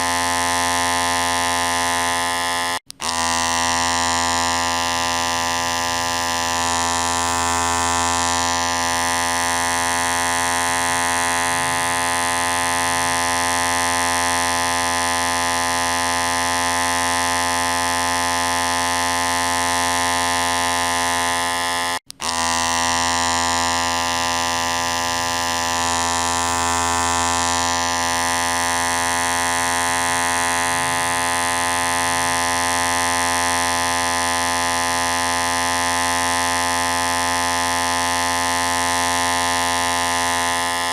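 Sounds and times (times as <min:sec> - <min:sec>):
electric hair clipper buzzing: 0:00.0 - 0:40.9.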